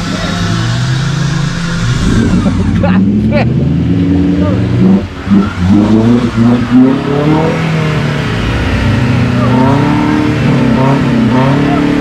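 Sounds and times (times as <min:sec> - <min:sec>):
offroad engine revving: 0:00.0 - 0:12.0.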